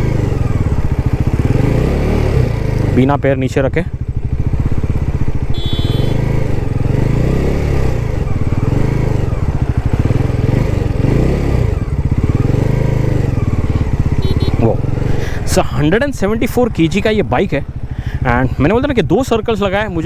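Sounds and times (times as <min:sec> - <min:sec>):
motorcycle engine running at low revs: 0:00.0 - 0:20.0.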